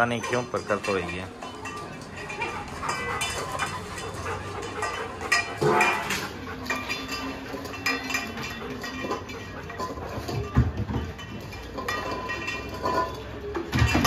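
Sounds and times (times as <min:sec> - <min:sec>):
steel bowls clinking on tiles: 0:00.0 - 0:14.0.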